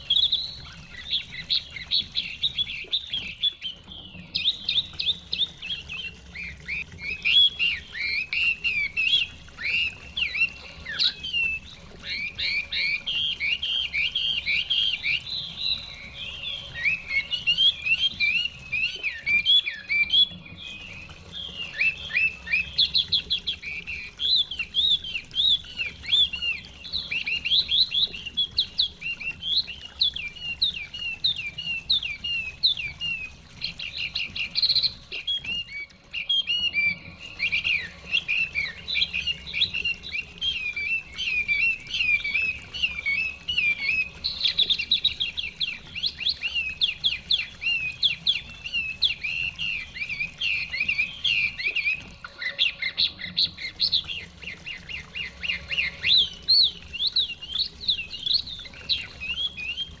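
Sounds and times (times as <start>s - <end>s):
bird singing whistled phrases: 0.0s - 60.0s.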